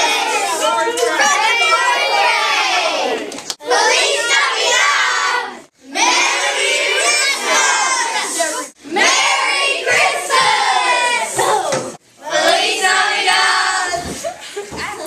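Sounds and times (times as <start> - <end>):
children's voices in chorus: 0.0 - 14.0.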